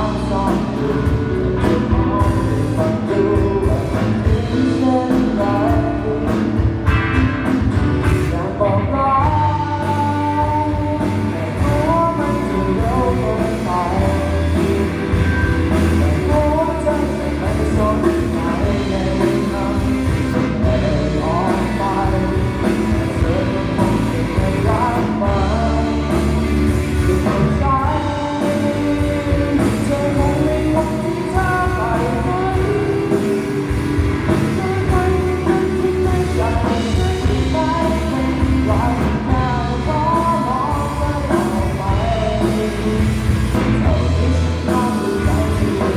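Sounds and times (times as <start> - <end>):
rock song with vocals: 0.0 - 45.9.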